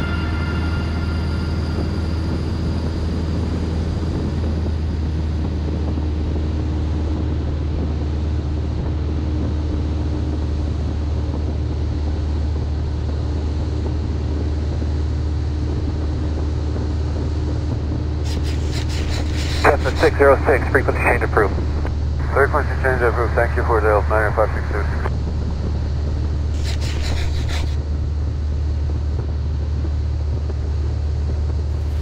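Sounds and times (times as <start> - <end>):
light aircraft engine droning: 0.0 - 32.0.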